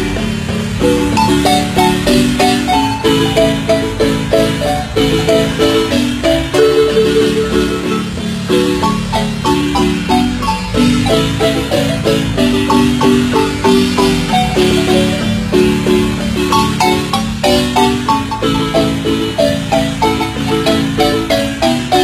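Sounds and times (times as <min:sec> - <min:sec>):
marimba band playing dance tune: 0:00.0 - 0:22.0.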